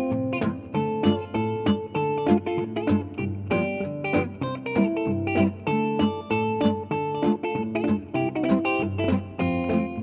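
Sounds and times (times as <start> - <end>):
plucked guitar melody: 0.0 - 10.0.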